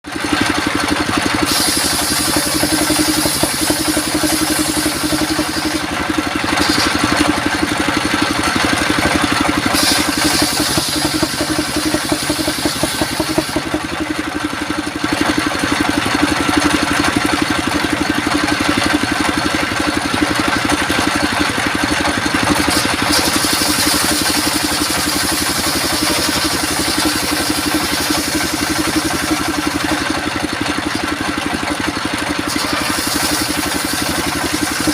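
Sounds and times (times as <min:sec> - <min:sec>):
circular saw and engine running: 0:00.0 - 0:34.9.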